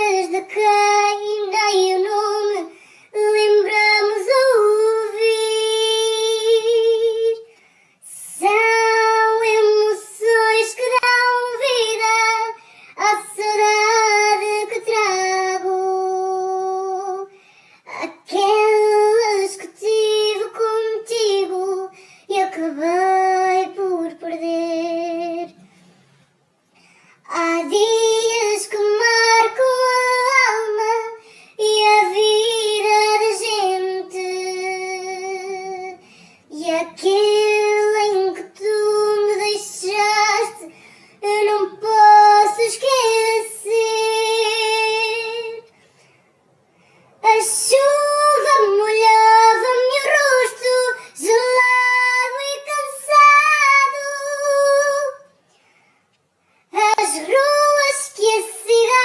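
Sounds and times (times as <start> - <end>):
high voice singing unaccompanied: 0.0 - 17.3, 17.9 - 25.6, 27.3 - 45.7, 47.2 - 55.3, 56.7 - 59.0.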